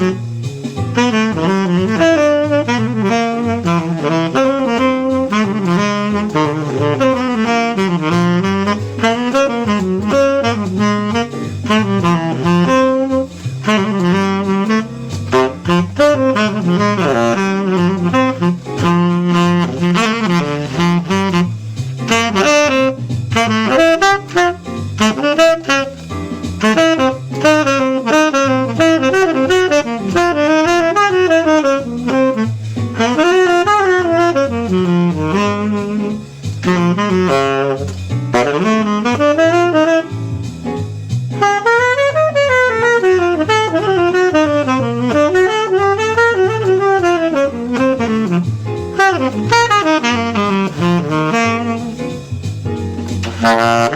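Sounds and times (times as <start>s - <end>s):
jazz saxophone solo: 0.0s - 53.9s
moving bass line: 0.0s - 53.9s
rhythm section backing: 0.0s - 53.9s.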